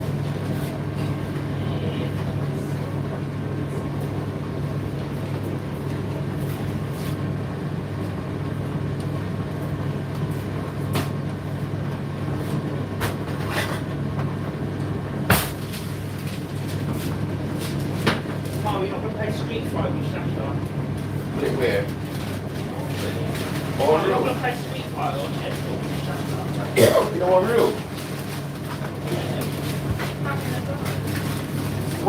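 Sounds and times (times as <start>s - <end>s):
tumble dryer humming: 0.0s - 32.0s.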